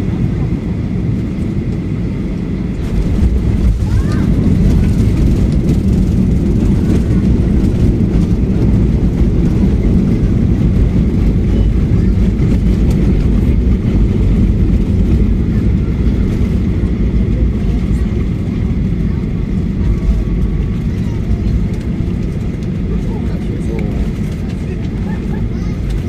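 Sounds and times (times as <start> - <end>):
airliner engines and rushing air: 0.0 - 26.0.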